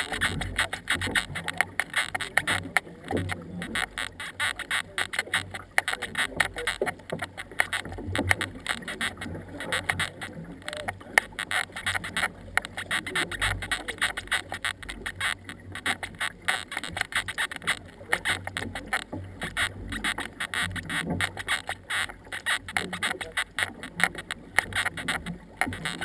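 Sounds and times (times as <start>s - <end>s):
paddle water splashing: 0.0s - 26.0s.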